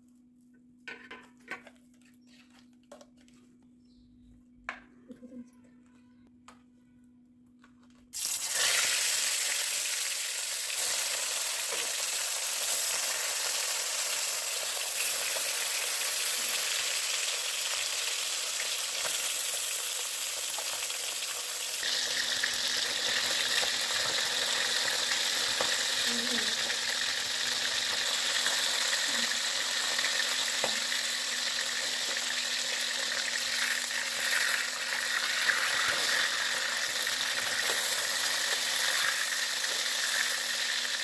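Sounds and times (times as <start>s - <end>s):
fish sizzling in hot oil: 8.2s - 41.0s.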